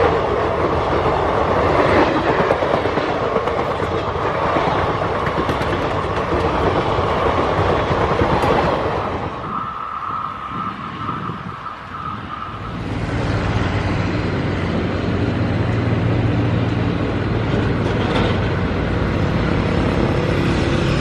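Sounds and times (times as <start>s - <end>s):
electric locomotive hum: 0.0s - 21.0s
passing train rail noise: 0.0s - 21.0s.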